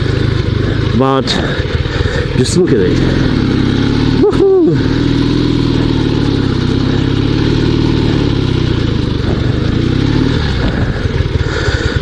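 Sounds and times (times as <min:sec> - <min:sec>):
motorcycle engine running under load: 0:00.0 - 0:12.0.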